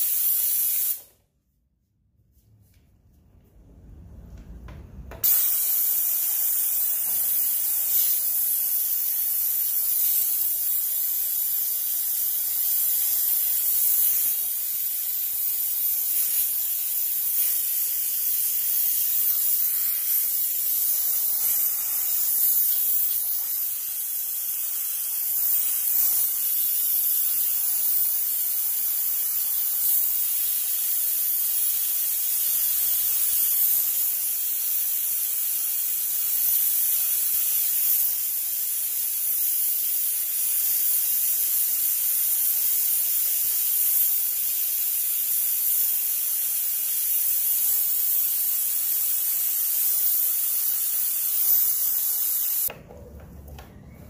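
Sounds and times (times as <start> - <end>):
steam cleaner hissing: 0.0 - 1.2, 5.2 - 52.8.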